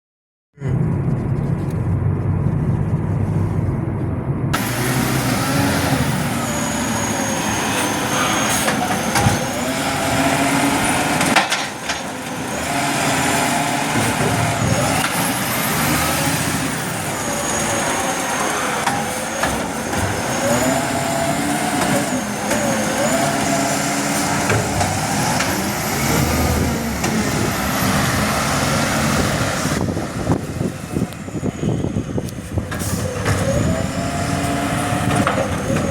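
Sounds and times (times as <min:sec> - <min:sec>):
garbage truck engine rumble: 0:00.6 - 0:35.9.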